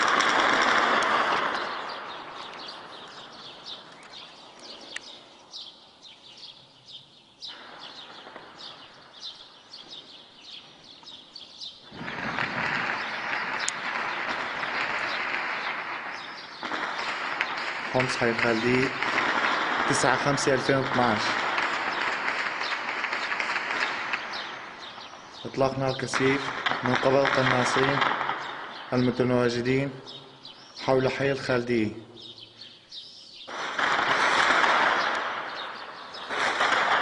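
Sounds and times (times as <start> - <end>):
sharp cracks: 0.0 - 5.3, 7.4 - 37.0
birds chirping: 0.0 - 33.9, 34.8 - 37.0.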